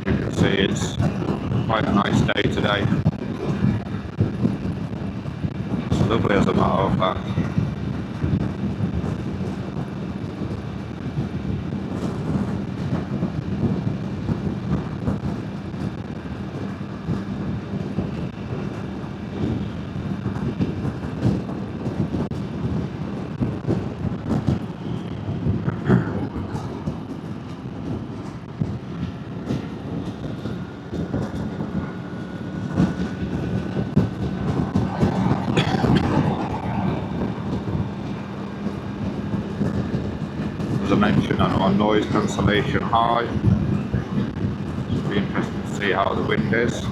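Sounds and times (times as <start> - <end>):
low steady drone: 0.0 - 46.9
wind rush and rumble: 0.0 - 46.9.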